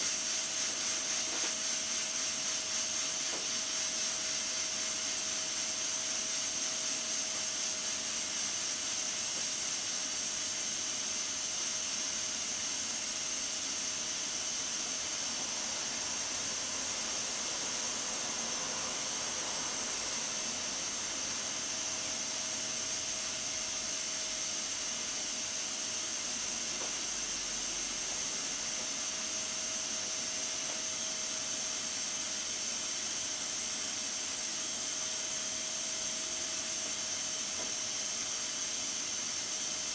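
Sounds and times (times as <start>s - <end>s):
pressure cooker steam hissing: 0.0s - 39.9s.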